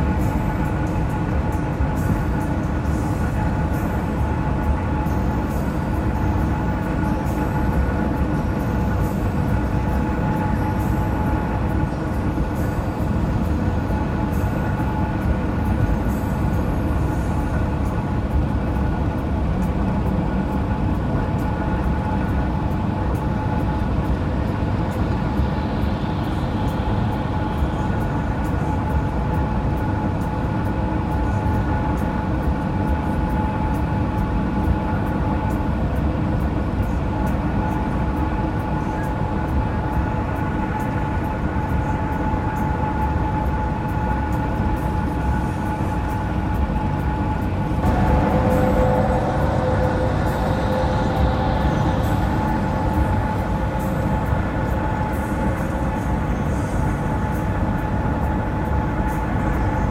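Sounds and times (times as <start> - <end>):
faint steady whine: 0.0 - 59.9
tyre and engine drone: 0.0 - 59.9.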